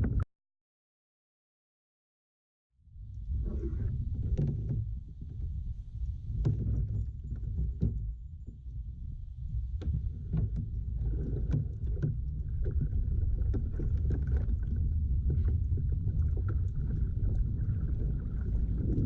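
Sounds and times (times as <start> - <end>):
steady low rumble: 2.9 - 19.0
water splashing against hull: 3.2 - 19.0.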